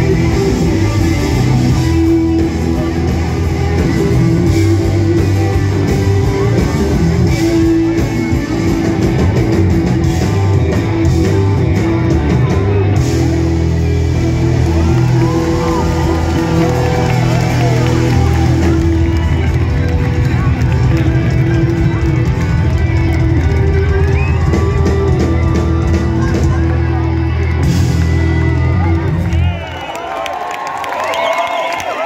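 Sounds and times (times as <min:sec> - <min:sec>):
live rock band playing: 0:00.0 - 0:29.8.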